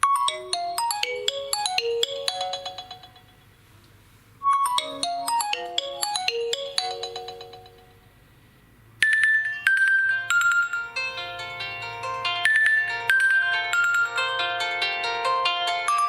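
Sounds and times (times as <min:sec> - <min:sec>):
ringtone with high descending notes: 0:00.0 - 0:03.4, 0:04.4 - 0:08.1, 0:09.0 - 0:16.0
phone ringtone melody: 0:00.0 - 0:03.5, 0:04.4 - 0:08.1, 0:09.0 - 0:16.0.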